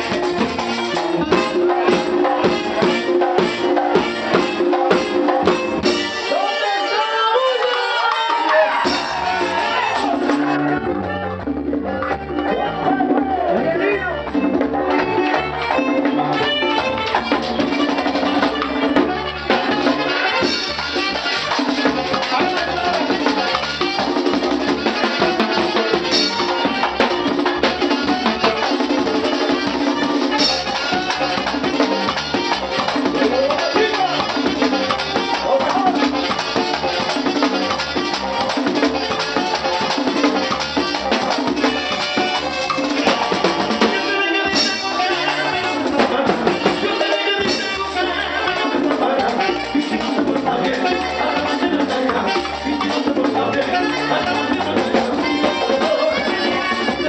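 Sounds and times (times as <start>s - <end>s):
merengue band playing: 0.0s - 57.0s.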